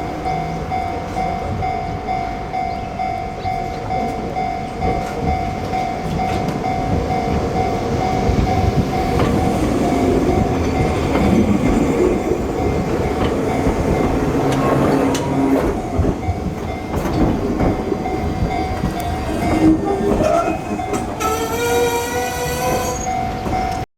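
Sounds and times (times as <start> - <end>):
train wheels clicking over rail joints: 3.4 - 23.8.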